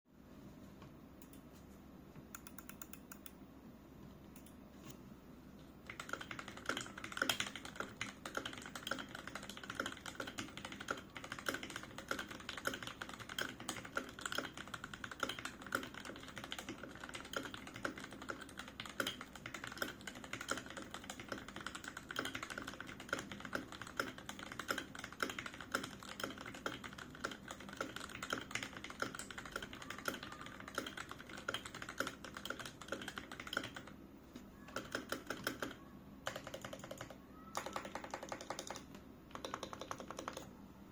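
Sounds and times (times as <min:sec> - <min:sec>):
typing on mechanical keyboard: 0:05.9 - 0:34.0, 0:34.6 - 0:40.5.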